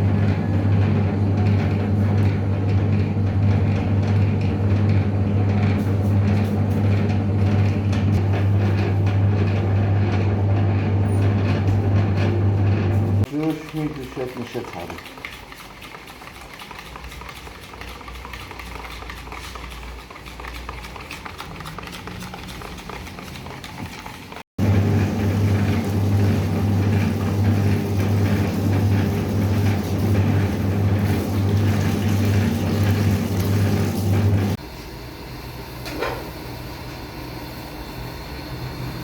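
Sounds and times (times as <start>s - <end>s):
mixed working noise: 0.0s - 39.0s.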